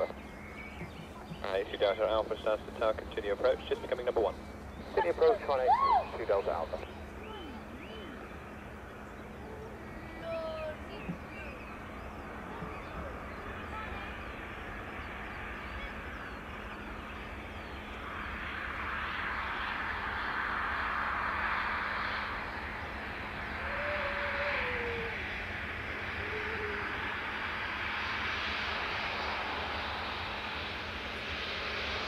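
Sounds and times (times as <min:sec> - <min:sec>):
aircraft engine rushing: 0:00.0 - 0:32.0.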